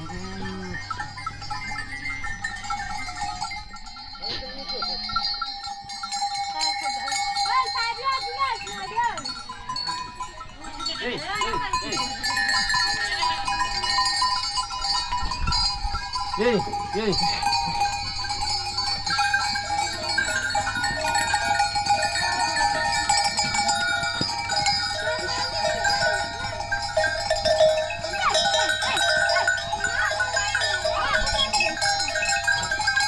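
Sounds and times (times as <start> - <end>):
jangling goat bells: 0.0 - 33.0.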